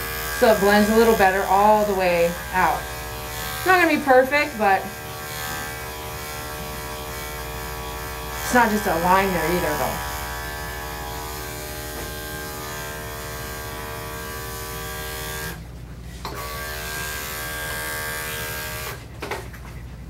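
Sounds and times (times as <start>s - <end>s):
electric clippers buzzing: 0.0s - 19.1s.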